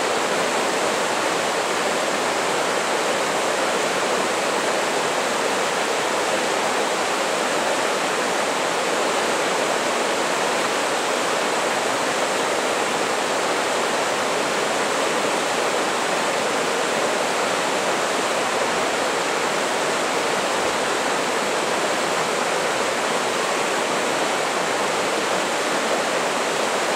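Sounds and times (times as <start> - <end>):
river rushing over rocks: 0.0 - 26.9.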